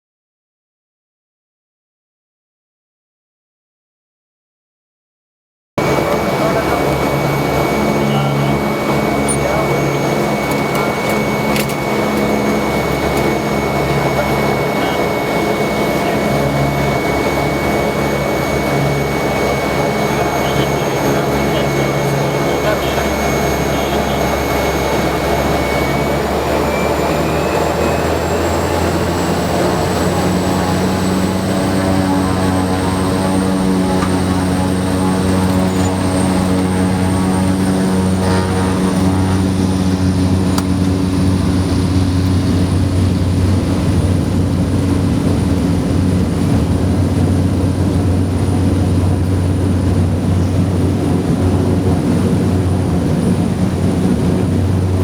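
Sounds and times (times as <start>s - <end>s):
high turbine whine: 5.8s - 55.0s
turboprop engine drone: 5.8s - 55.0s.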